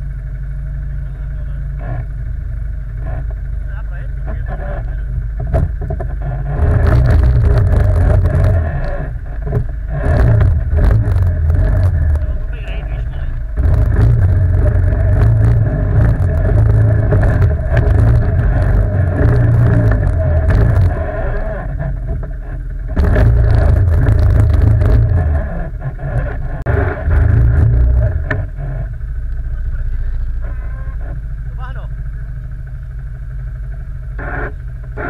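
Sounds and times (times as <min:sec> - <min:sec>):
quad engine revving: 0:00.8 - 0:32.9, 0:33.6 - 0:35.0.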